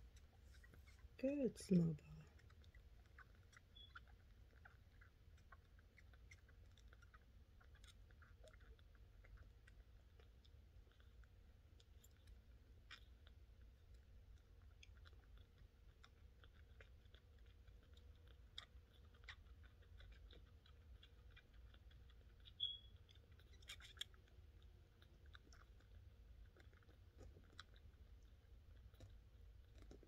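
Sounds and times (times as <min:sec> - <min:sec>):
kitten suckling wet clicks: 0:00.0 - 0:30.0.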